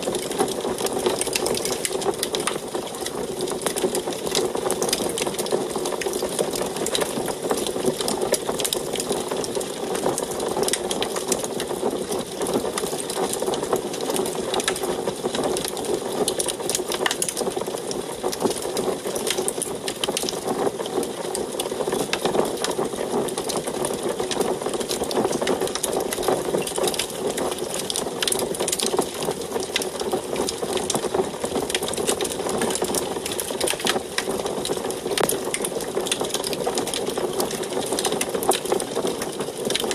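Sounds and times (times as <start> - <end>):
fire crackling and popping: 0.0 - 39.9
wood fire burning: 0.0 - 39.9.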